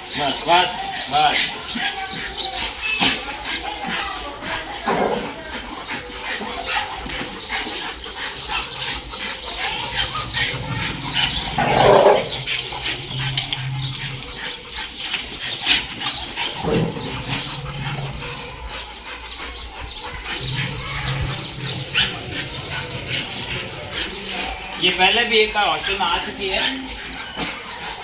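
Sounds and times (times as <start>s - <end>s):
dog sounds: 0.0s - 28.0s
dogs moving about: 0.0s - 28.0s.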